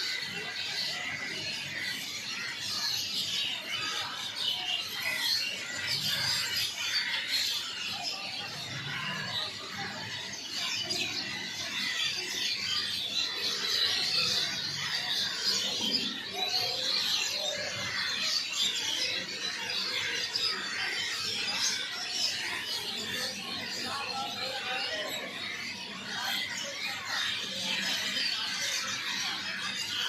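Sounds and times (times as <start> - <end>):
flock of small birds chirping: 0.0 - 30.0.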